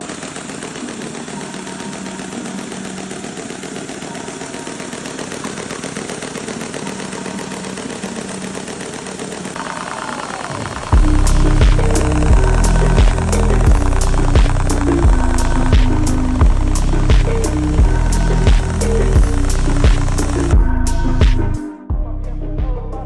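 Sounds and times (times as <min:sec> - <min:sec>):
model engine clattering: 0:00.0 - 0:20.6.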